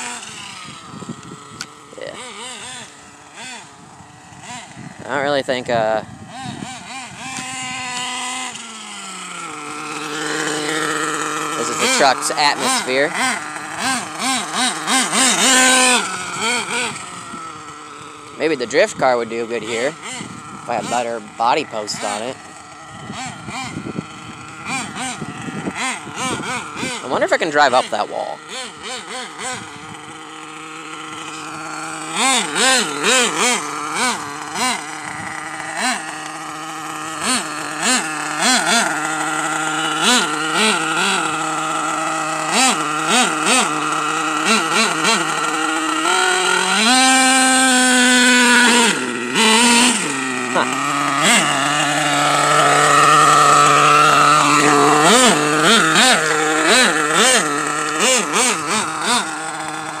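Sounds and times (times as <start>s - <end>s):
small nitro engine revving: 0.0s - 60.0s.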